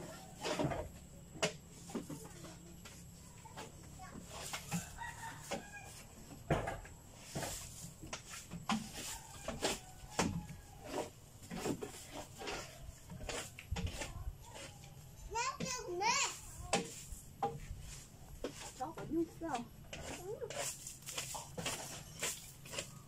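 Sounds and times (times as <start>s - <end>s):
broom sweeping wooden floor: 0.0s - 23.0s.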